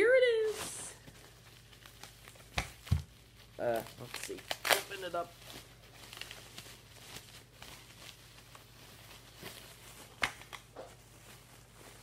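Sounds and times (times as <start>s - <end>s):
bubble wrap rustling: 0.0s - 12.0s.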